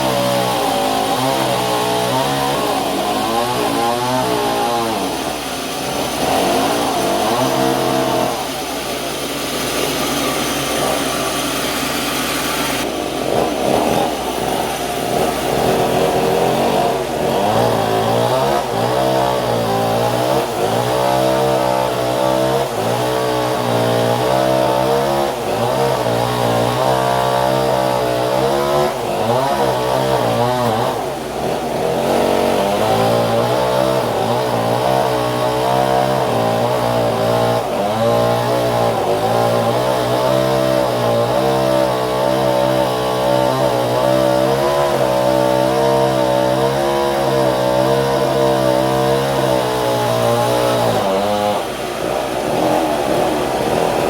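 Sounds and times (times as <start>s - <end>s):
engine-driven saw running: 0.0s - 54.0s.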